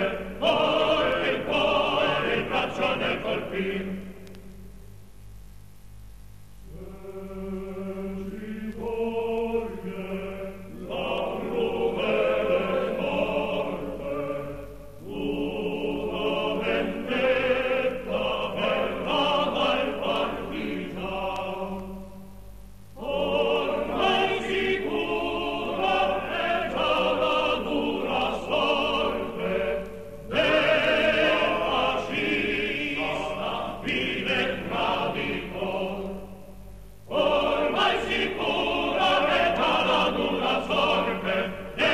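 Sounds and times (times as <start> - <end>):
choir singing: 0.0 - 4.3, 6.7 - 22.3, 23.0 - 41.9
low hum: 0.0 - 41.9.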